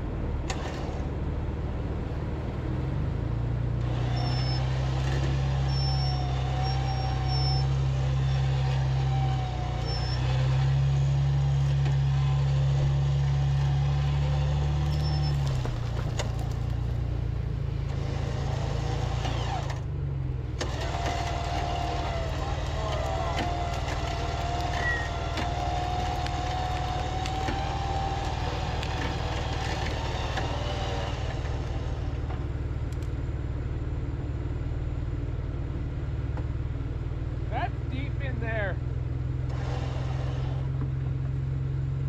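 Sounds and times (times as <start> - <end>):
vehicle engine revving: 0.0 - 33.0, 37.4 - 42.0.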